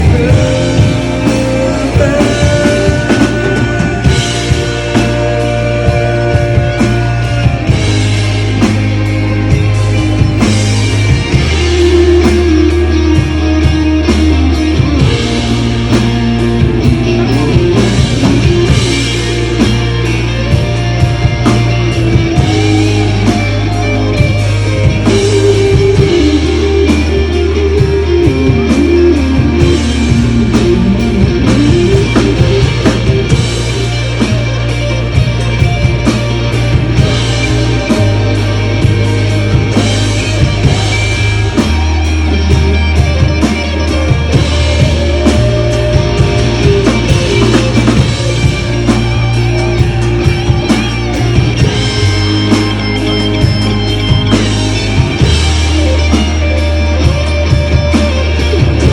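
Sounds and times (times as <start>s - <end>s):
bass line: 0.0s - 58.9s
drum kit beats: 0.0s - 58.9s
electric guitar melody: 0.0s - 58.9s.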